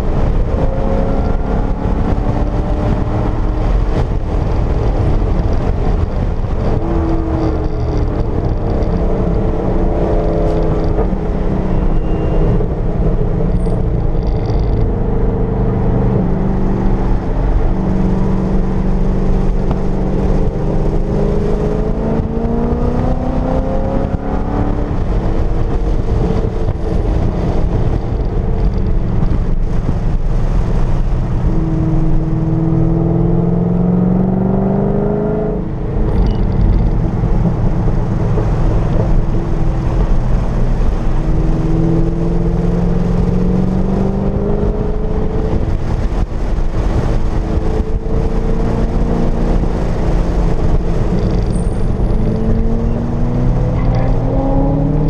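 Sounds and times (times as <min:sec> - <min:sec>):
car engine revving: 0:00.0 - 0:55.0
wind and tyre noise: 0:00.0 - 0:55.0.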